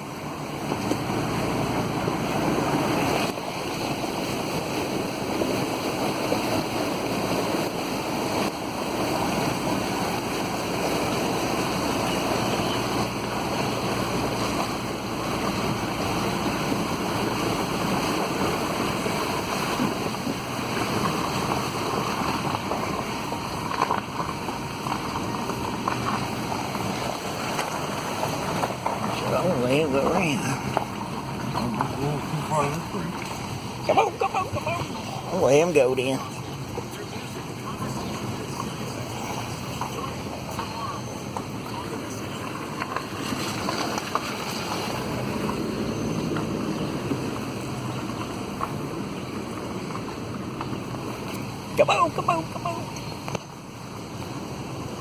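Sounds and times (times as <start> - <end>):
water splashing around vehicle: 0.0 - 55.0.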